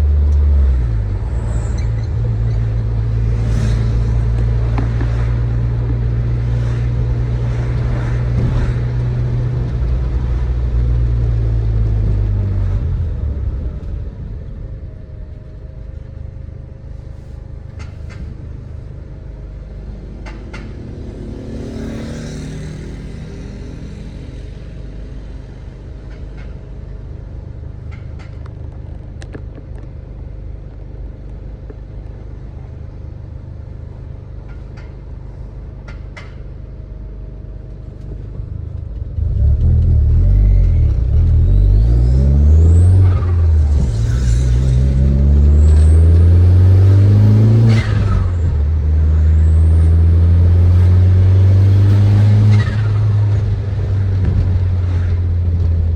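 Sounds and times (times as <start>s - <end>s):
car engine low drone: 0.0s - 55.9s.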